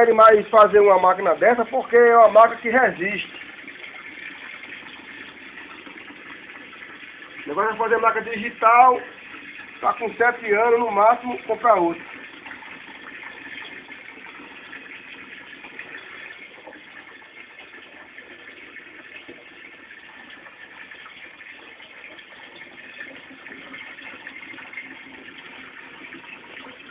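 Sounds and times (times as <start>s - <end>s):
water filling washing machine: 0.0s - 26.9s.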